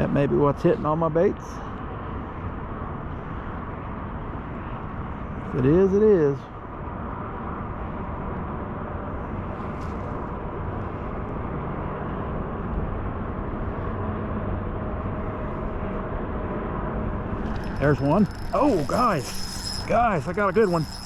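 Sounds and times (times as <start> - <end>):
low rumble with faint hum: 0.0 - 21.0.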